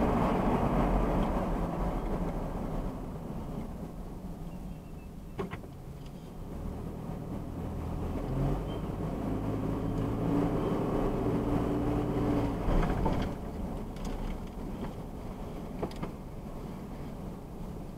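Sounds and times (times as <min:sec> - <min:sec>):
car engine hum: 0:00.0 - 0:17.9
road noise: 0:00.0 - 0:17.9.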